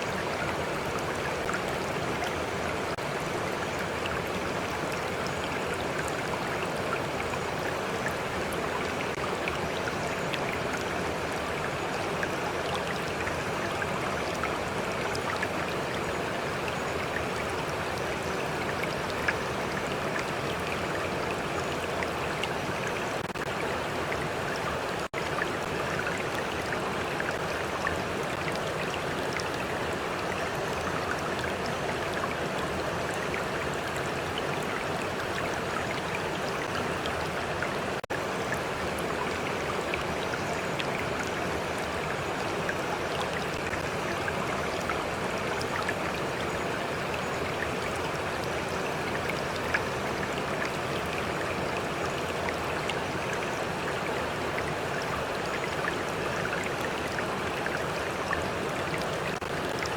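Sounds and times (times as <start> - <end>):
stream water flowing: 0.0 - 59.9
water trickles and splashes: 0.0 - 59.9.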